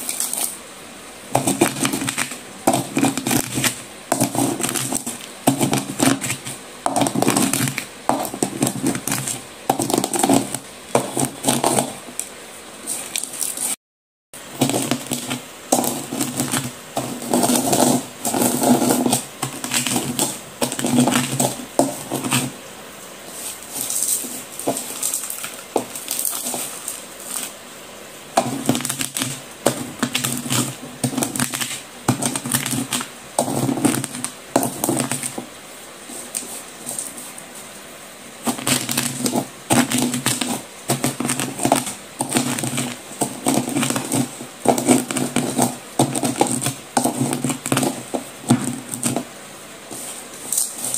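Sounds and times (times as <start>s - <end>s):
pestle grinding crunchy pieces: 0.0s - 0.6s, 1.2s - 13.8s, 14.4s - 22.6s, 23.3s - 27.6s, 28.3s - 37.3s, 38.4s - 50.9s.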